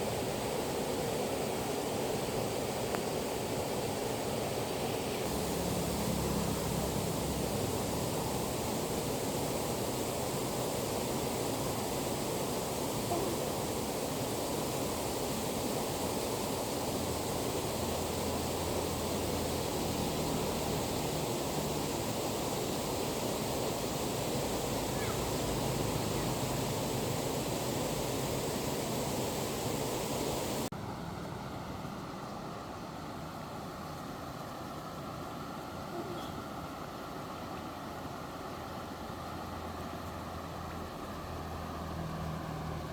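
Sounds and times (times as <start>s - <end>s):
stream water rushing: 0.0s - 30.8s, 31.6s - 42.9s.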